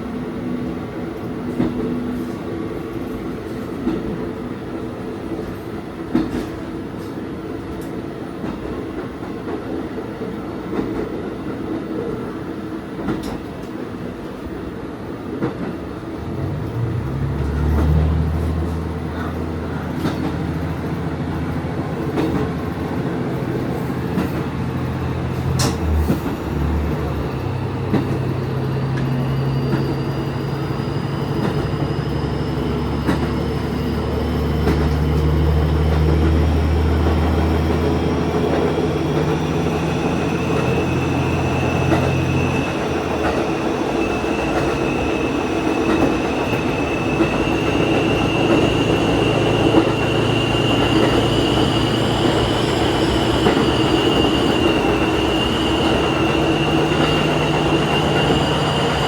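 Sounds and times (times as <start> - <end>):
diesel railcar running: 0.0 - 59.0.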